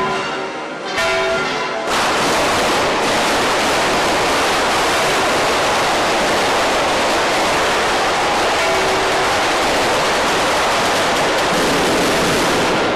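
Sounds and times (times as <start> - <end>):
church bells ringing: 0.0 - 12.9
loud steady rushing noise: 1.9 - 12.9.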